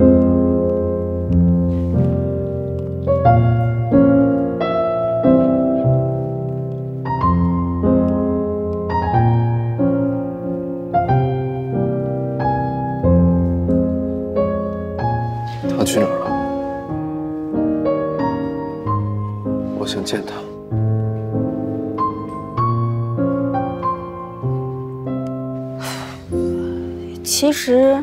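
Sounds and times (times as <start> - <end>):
slow gentle piano music: 0.0 - 28.0.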